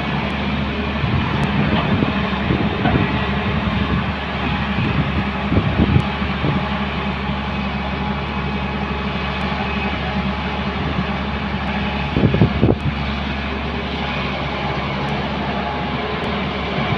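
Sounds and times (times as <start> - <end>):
diesel engines running: 0.0 - 16.9.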